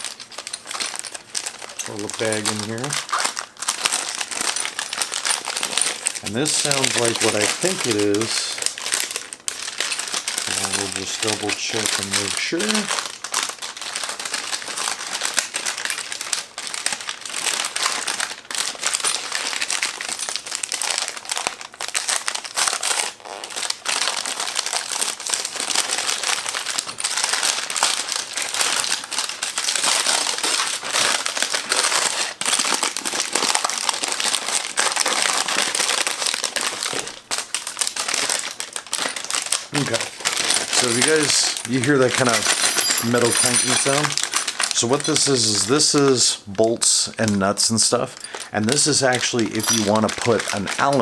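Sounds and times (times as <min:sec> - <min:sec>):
plastic bag crinkling: 0:00.0 - 0:51.0.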